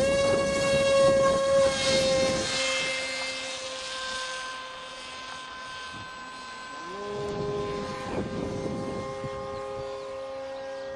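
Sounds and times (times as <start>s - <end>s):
model plane motor and propeller whine: 0.0s - 10.9s.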